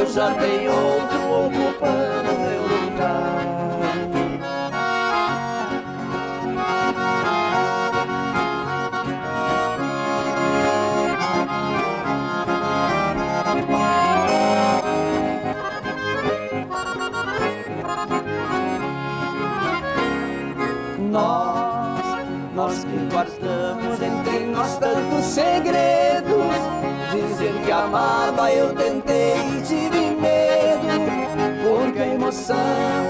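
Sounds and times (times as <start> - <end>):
accordion melody: 0.0 - 33.0
rhythmic backing: 0.0 - 33.0.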